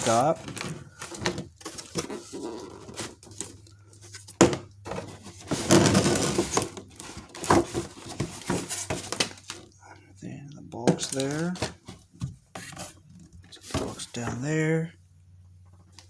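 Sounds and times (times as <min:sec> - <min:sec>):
cardboard scraping and rustling: 0:00.0 - 0:09.7, 0:11.0 - 0:14.6
low steady hum: 0:00.0 - 0:16.0.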